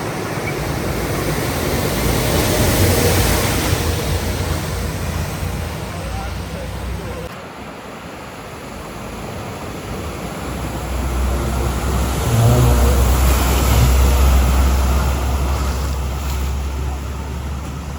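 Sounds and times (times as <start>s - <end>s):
car engine rumble: 0.0s - 7.4s, 8.6s - 17.9s
rushing water: 0.0s - 17.9s.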